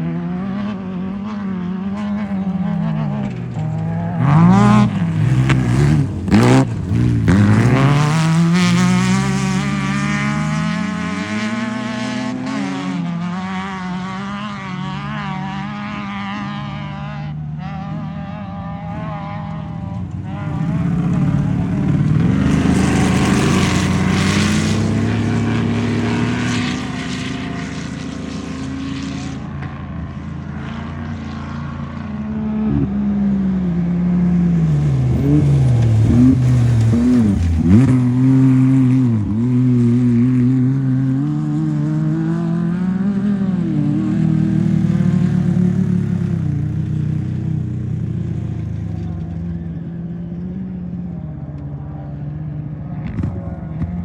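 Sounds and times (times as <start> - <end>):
race vehicle engine revving: 0.0 - 54.0.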